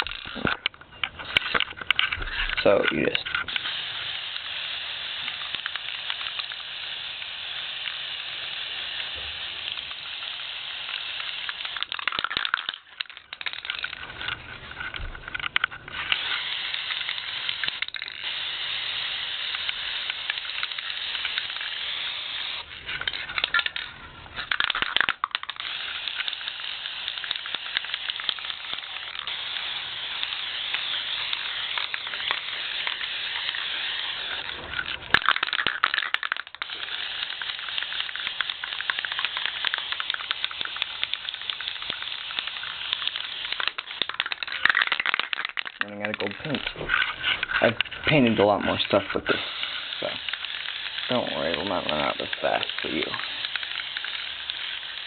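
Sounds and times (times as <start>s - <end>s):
spray paint can hissing: 0.0s - 55.0s.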